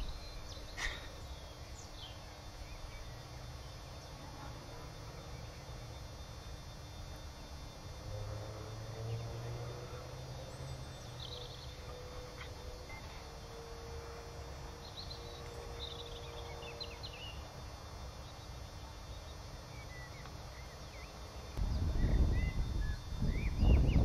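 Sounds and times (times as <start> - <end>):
faint steady drone: 0.0 - 24.0.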